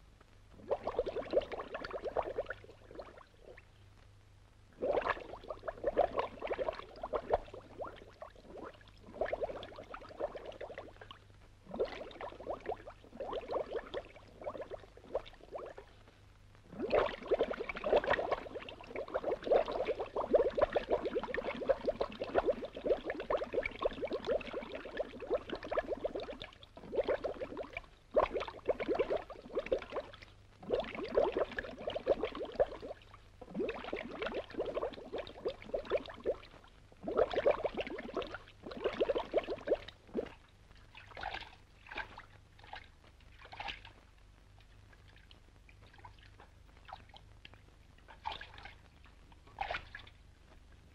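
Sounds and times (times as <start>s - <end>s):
underwater bubbling and gurgling: 0.5s - 3.8s, 4.7s - 50.9s.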